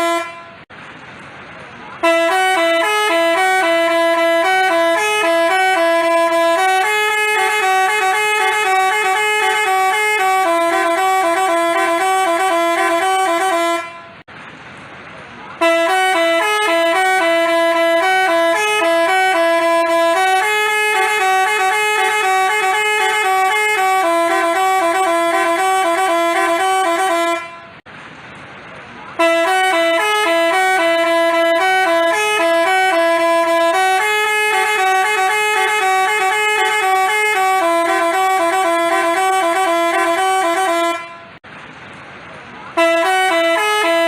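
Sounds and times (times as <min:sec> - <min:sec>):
musical bus horn tune: 0:00.0 - 0:00.7, 0:02.0 - 0:14.3, 0:15.6 - 0:27.9, 0:29.2 - 0:41.4, 0:42.8 - 0:44.0.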